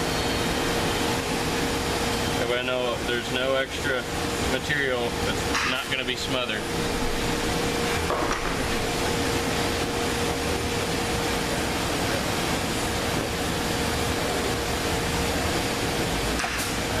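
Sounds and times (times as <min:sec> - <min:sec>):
fan running: 0:00.0 - 0:17.0.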